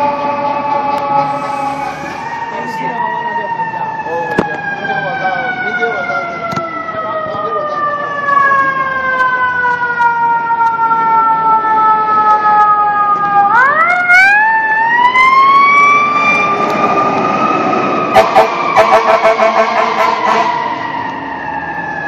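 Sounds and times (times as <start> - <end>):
fire engine siren wailing: 0.0 - 22.0.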